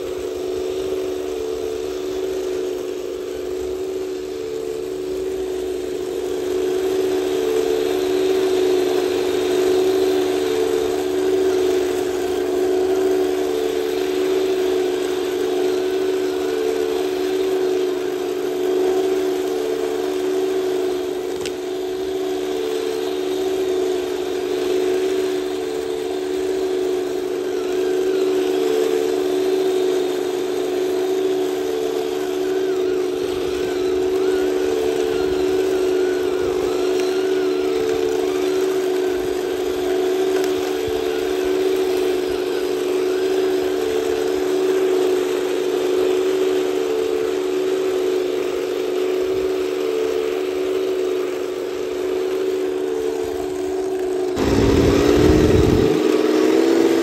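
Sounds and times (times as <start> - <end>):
imitation engine drone: 0.0 - 57.0
whir of drive motors: 0.0 - 57.0.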